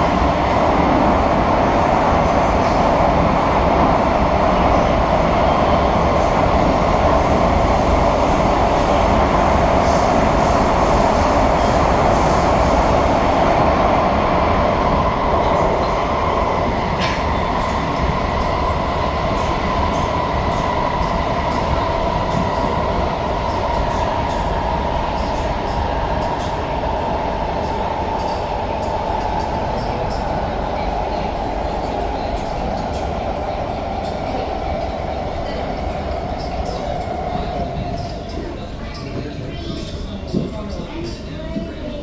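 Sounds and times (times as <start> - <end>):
rumble of running train: 0.0 - 42.0.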